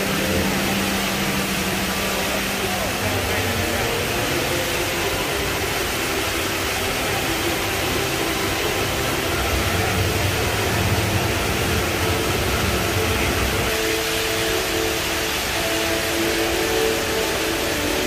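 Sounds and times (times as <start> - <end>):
indoor waterfall rushing: 0.0 - 18.0.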